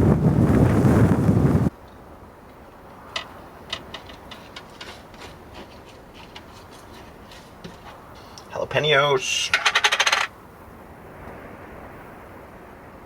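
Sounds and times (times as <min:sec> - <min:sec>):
quiet background hum: 0:01.7 - 0:13.0.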